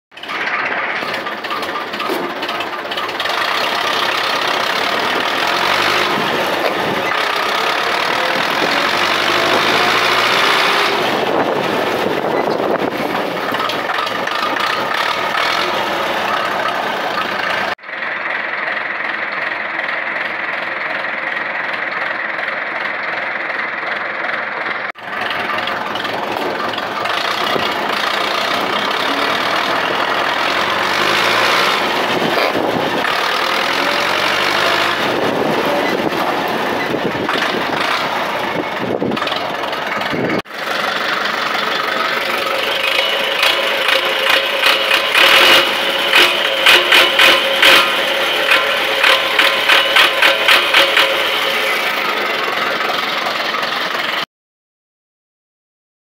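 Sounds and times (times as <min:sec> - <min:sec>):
tractor diesel engine revving: 0:00.1 - 0:54.3.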